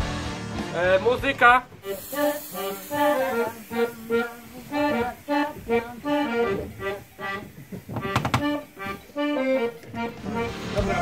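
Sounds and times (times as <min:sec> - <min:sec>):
accordion folk metal music: 0:00.0 - 0:11.0.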